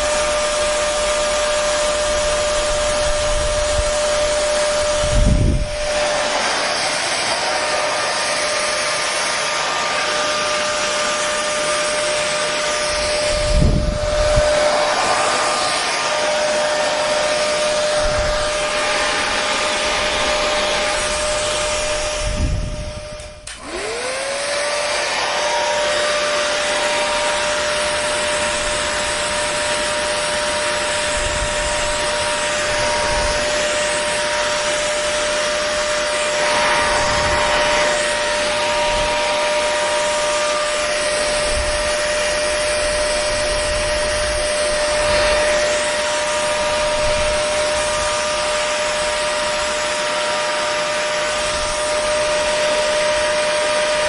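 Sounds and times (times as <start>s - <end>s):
hair dryer blowing: 0.0s - 54.0s.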